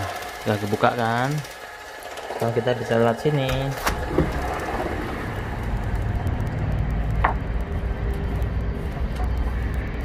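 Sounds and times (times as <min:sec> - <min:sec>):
low city rumble: 0:01.4 - 0:10.0.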